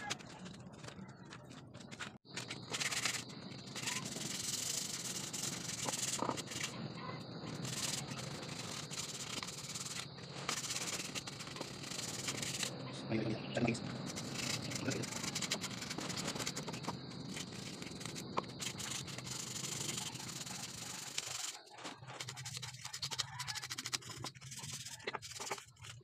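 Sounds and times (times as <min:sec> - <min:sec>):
sandpaper rubbing on wood: 0:02.7 - 0:06.7, 0:07.5 - 0:12.7, 0:14.1 - 0:26.0.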